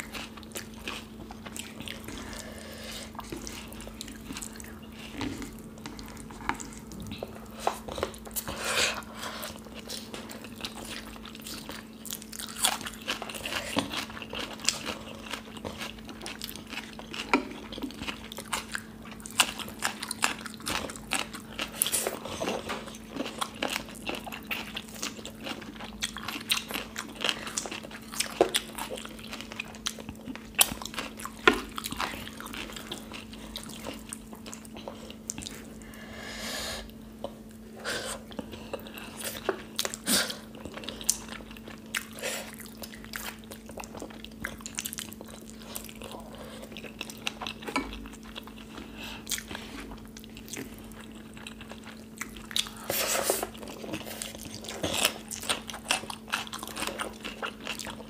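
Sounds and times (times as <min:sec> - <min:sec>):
people chewing and smacking: 0:00.0 - 0:36.1, 0:36.8 - 0:58.0.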